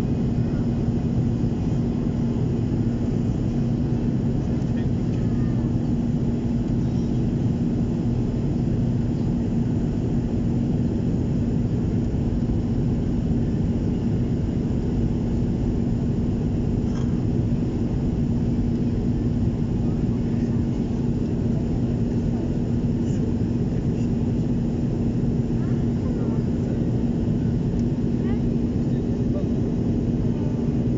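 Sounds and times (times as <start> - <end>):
constant hum: 0.0 - 30.9.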